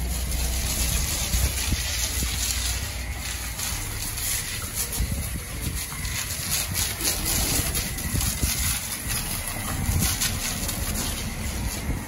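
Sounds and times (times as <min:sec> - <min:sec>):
continuous low rumble: 0:00.0 - 0:12.0
hiss of foam spray: 0:00.0 - 0:12.0.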